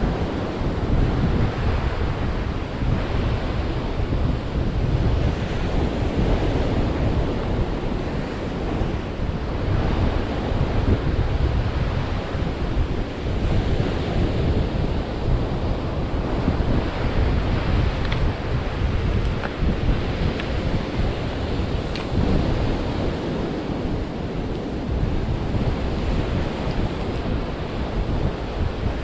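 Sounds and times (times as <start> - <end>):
surf on a beach: 0.0 - 29.0
wind buffeting microphone: 0.0 - 29.0.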